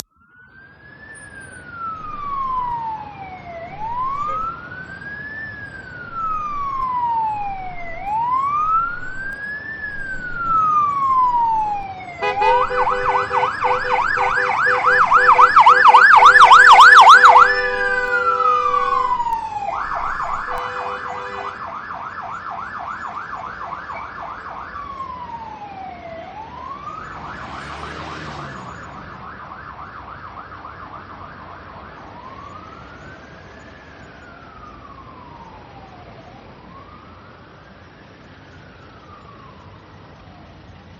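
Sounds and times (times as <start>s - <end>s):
ambulance siren wailing and yelping: 0.0s - 40.9s.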